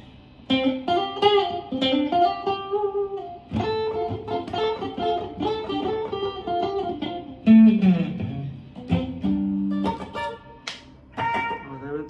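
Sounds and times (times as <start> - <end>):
clean electric guitar playing: 0.0 - 12.0.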